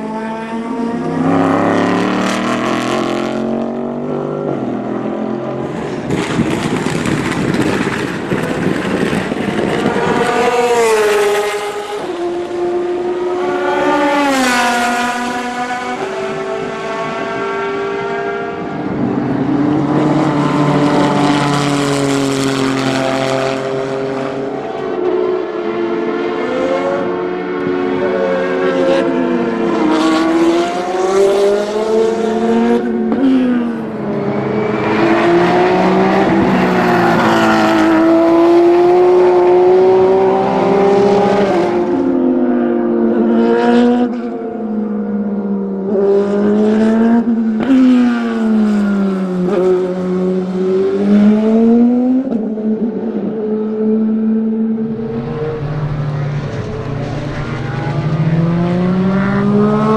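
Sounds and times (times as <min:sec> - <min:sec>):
race cars driving past: 0:00.0 - 0:59.9.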